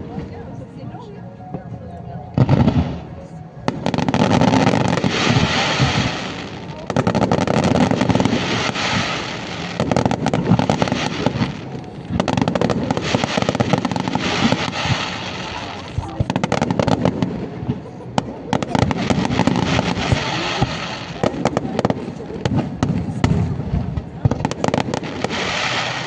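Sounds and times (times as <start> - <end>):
fireworks crackling and popping: 3.7 - 26.0.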